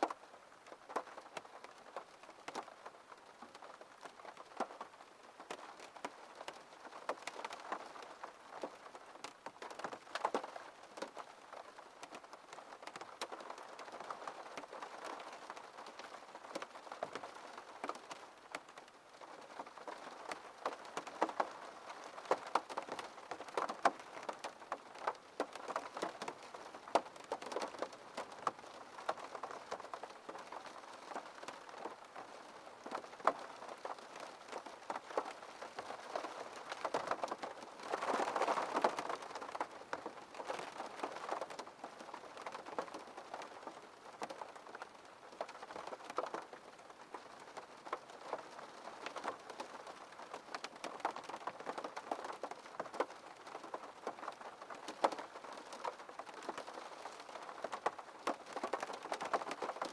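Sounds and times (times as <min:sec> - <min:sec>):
rain tapping on window glass: 0:00.0 - 0:59.9.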